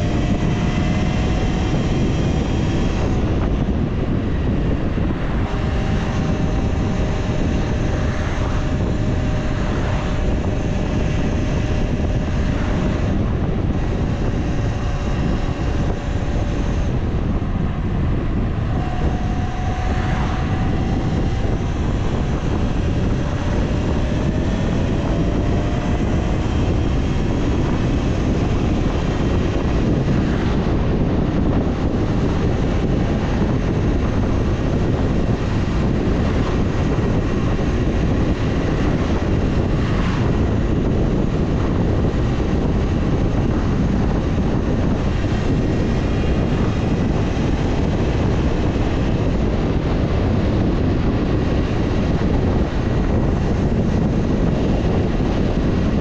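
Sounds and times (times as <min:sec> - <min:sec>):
electric motor whine: 0:00.0 - 0:56.0
wind buffeting microphone: 0:00.0 - 0:56.0.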